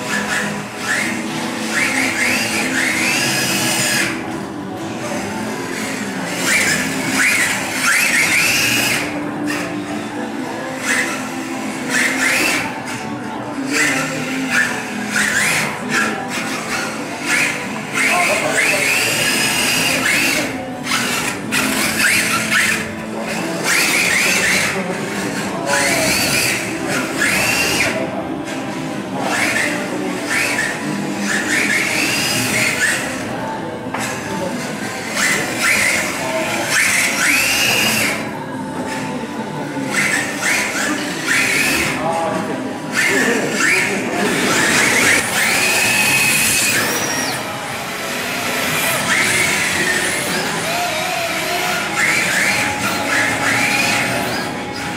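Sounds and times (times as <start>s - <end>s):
electric motors whining: 0.0s - 54.9s
simulated engine revving: 0.0s - 54.9s.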